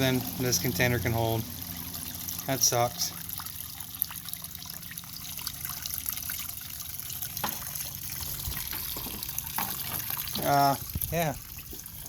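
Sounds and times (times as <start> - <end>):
fuel trickling into container: 0.0 - 12.0.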